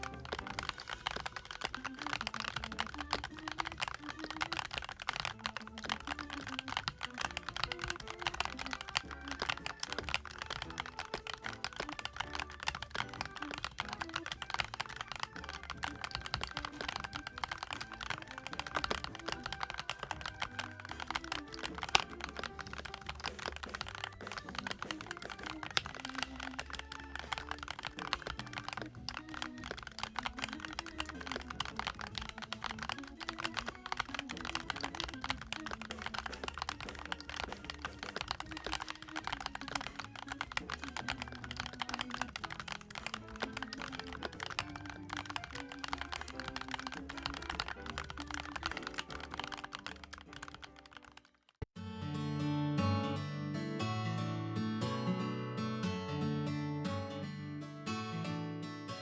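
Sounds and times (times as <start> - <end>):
fast typing on mechanical keyboard: 0.0 - 51.7.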